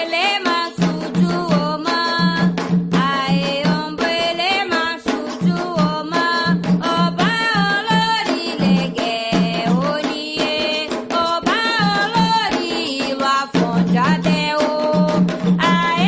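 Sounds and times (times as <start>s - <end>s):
hand drums and percussion: 0.0s - 16.0s.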